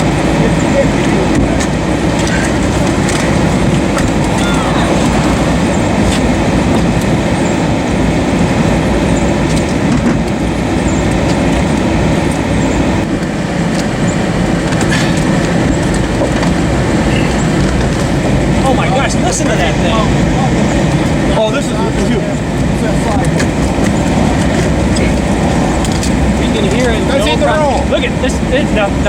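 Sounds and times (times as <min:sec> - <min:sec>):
tornado roaring: 0:00.0 - 0:29.0.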